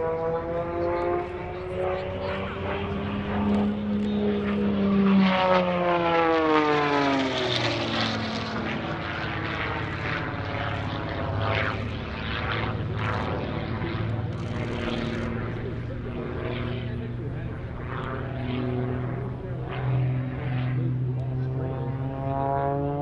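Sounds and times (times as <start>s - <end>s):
propeller plane engine: 0.0s - 23.0s.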